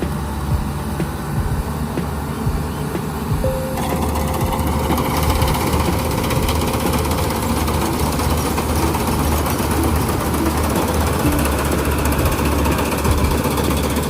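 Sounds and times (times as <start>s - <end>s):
combine harvester engine drone: 0.0s - 14.0s
thin steady whine: 0.0s - 14.0s.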